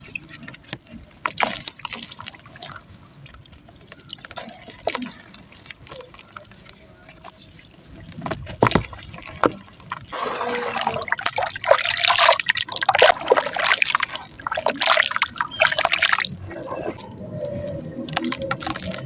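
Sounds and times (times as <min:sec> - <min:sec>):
mud crumbling in water: 0:00.0 - 0:19.0.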